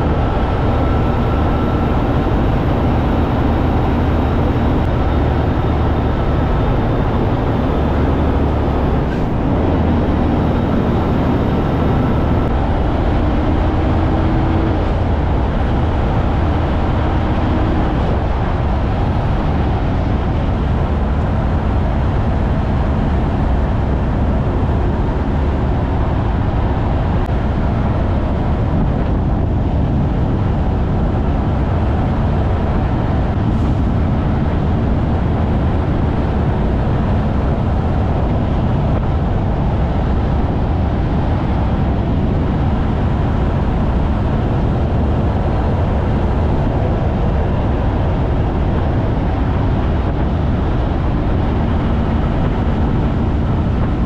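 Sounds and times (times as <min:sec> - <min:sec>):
diesel truck engine under load: 0:00.0 - 0:54.0
heavy wind: 0:00.0 - 0:54.0.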